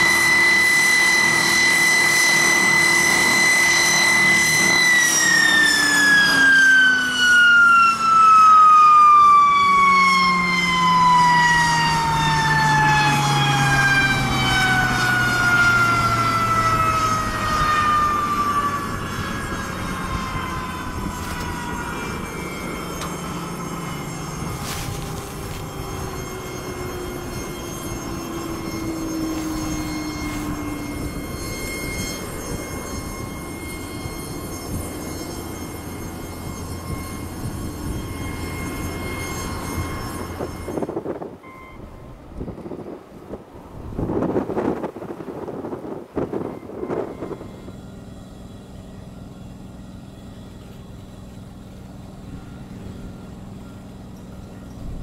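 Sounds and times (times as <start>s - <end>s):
low engine drone: 0.0s - 55.0s
turboprop engine whine falling: 0.0s - 55.0s.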